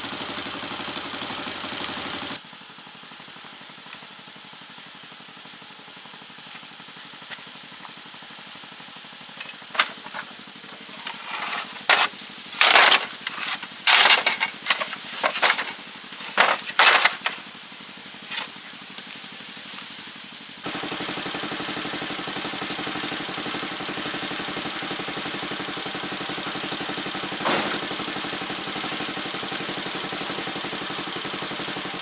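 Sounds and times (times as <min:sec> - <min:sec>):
short loud hissing bursts: 0:00.0 - 0:32.0
small engine running: 0:00.0 - 0:32.0.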